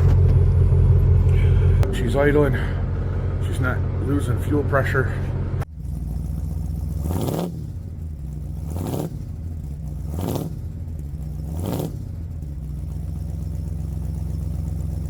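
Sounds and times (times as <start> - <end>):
engine revving and idling: 0.0 - 15.0.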